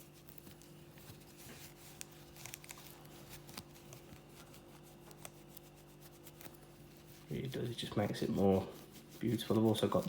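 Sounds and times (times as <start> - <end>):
cloth rubbing on metal: 0.0 - 10.0.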